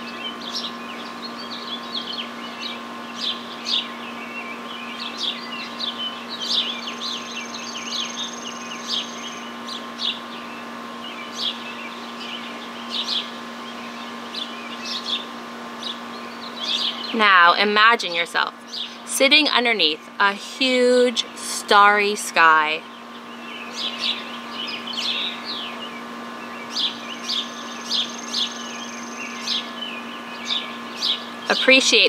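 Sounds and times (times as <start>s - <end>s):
songbirds chirping and singing: 0.0s - 20.4s, 22.2s - 32.0s
faint steady hum: 0.0s - 32.0s.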